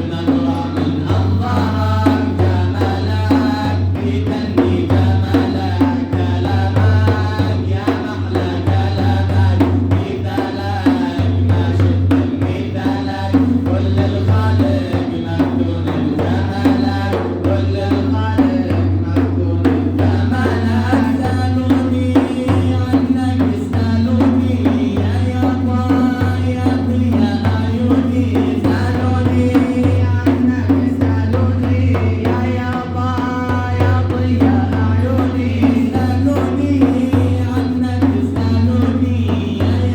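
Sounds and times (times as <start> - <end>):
steady drum beats: 0.0 - 39.9.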